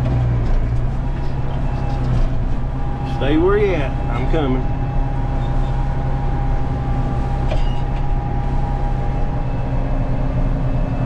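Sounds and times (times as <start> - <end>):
diesel engine drone: 0.0 - 11.0
thin steady whine: 1.5 - 11.0.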